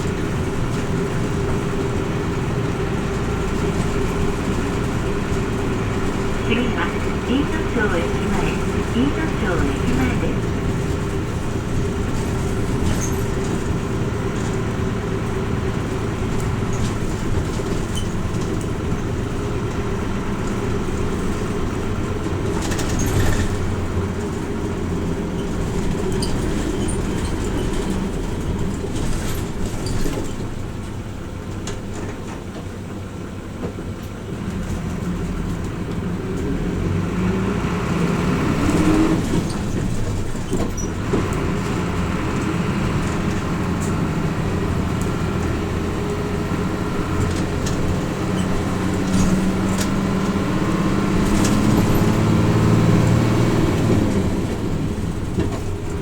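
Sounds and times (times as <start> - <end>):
bus diesel engine: 0.0 - 56.0
road noise: 0.0 - 56.0.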